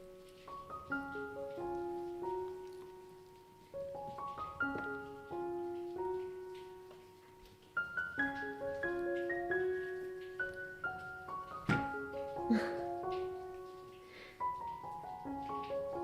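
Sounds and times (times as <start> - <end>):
piano arpeggios: 0.0 - 16.0.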